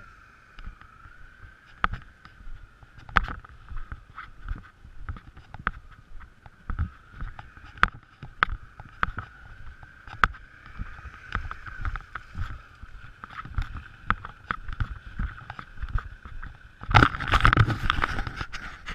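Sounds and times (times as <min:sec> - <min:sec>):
dirt bike engine humming: 0:00.0 - 0:18.9.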